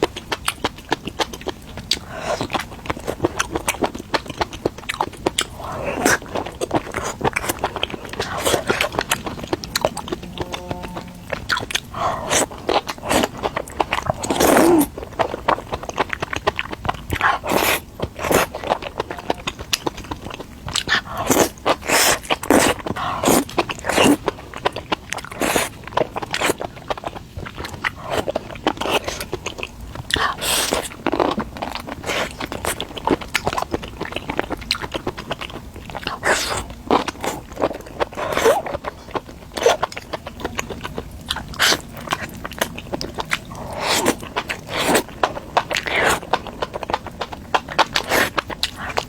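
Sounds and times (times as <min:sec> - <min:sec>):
person chewing and crunching: 0:00.0 - 0:49.0.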